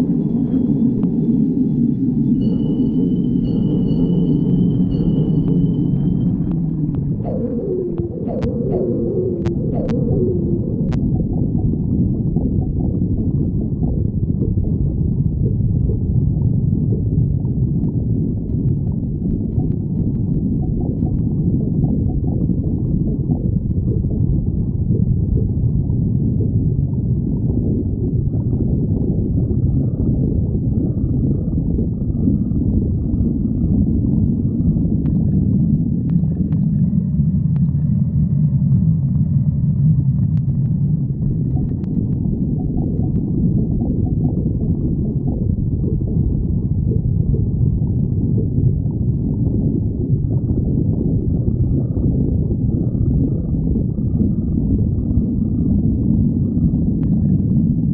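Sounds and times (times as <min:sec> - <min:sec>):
stomach growling: 0:04.9 - 0:57.9.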